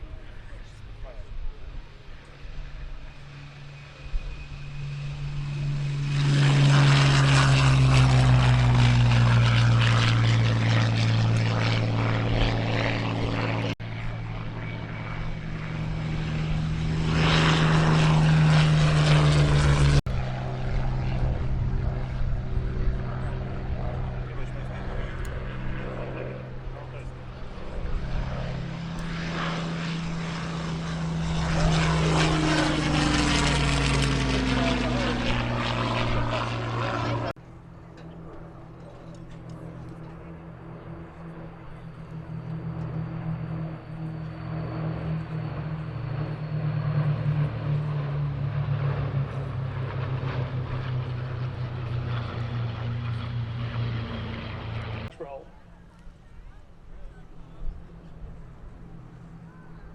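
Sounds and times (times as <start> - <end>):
propeller aircraft flying by: 0.0 - 59.9.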